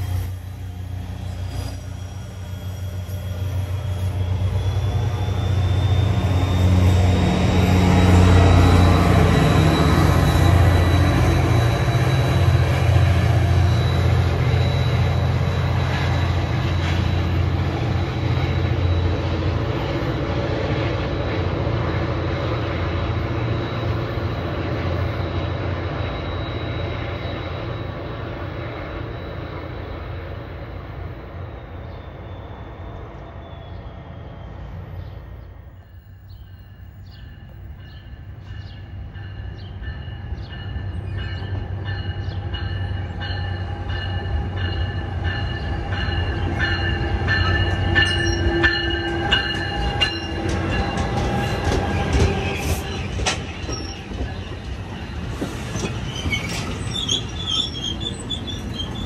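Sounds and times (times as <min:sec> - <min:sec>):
approaching train ringing tones: 0:00.0 - 0:59.0
diesel locomotive engine drone: 0:00.0 - 0:59.0.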